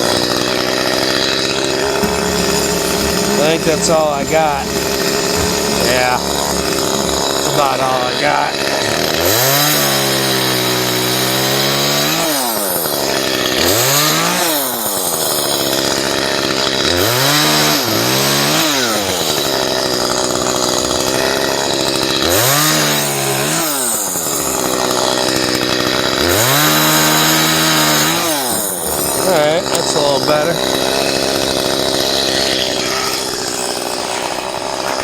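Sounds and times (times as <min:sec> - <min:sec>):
chainsaw revving: 0:00.0 - 0:35.0.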